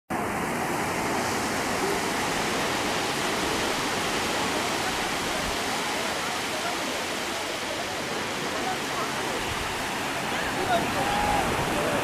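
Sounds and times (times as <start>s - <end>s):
sea surf breaking: 0.1s - 12.0s.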